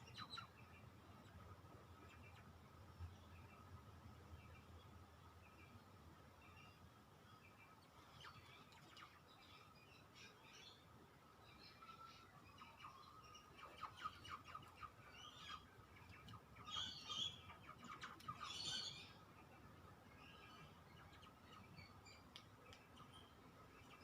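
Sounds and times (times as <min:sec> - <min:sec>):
bird chirps: 0:00.0 - 0:03.7, 0:06.4 - 0:24.0.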